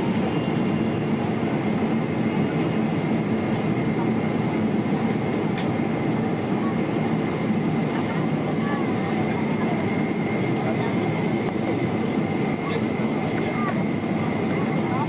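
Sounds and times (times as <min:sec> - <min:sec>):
jet engine and airflow noise: 0:00.0 - 0:15.0.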